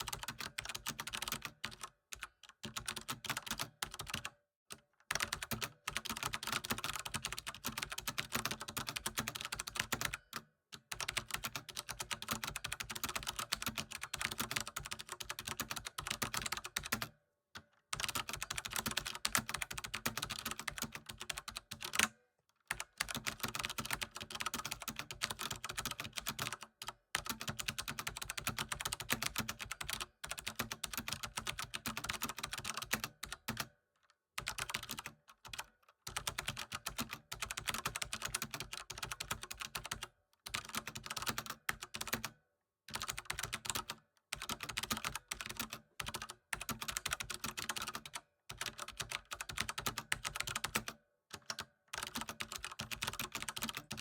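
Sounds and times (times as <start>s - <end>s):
computer keyboard typing: 0.0s - 4.3s, 5.1s - 17.2s, 17.9s - 33.7s, 34.4s - 54.0s.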